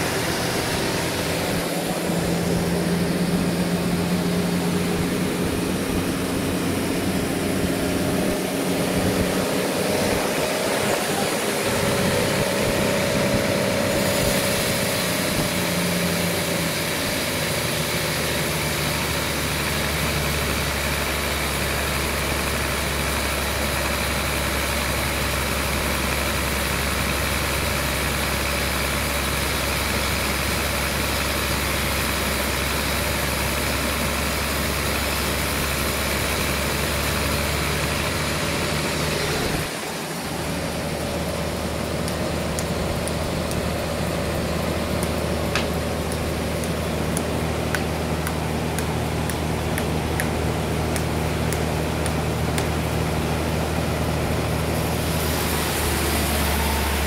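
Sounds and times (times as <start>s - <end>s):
deep steady hum: 0.0s - 27.7s, 32.1s - 57.0s
sawmill engine running: 0.0s - 57.0s.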